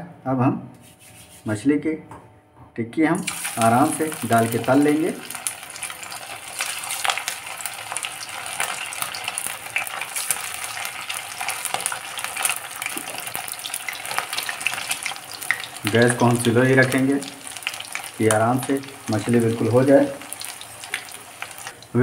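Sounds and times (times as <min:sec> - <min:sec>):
patties sizzling in deep oil: 0:03.2 - 0:22.0.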